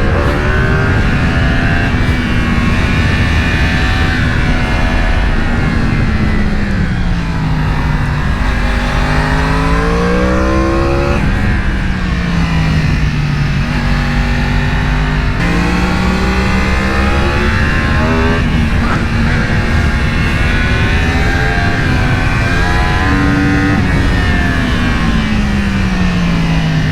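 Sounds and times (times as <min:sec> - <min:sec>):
sportbike engine pulling hard: 0:00.0 - 0:26.9
wind rush: 0:00.0 - 0:26.9.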